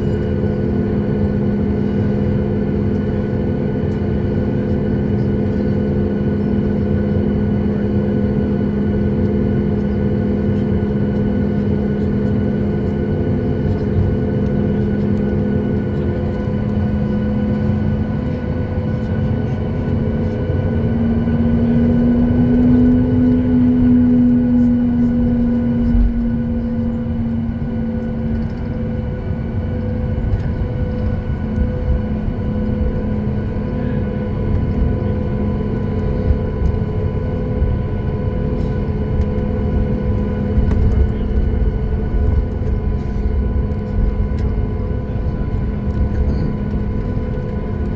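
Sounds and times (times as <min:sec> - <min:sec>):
jet engines droning: 0:00.0 - 0:47.9.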